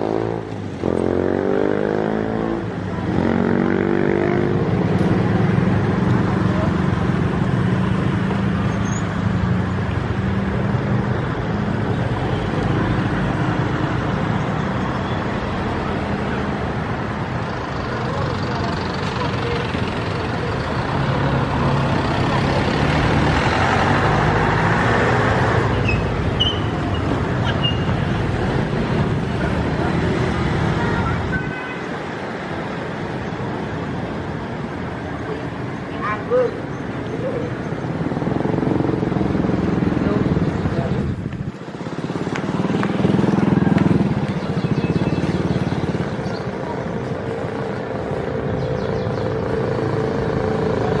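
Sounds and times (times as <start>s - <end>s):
engine and traffic noise: 0.0s - 51.0s.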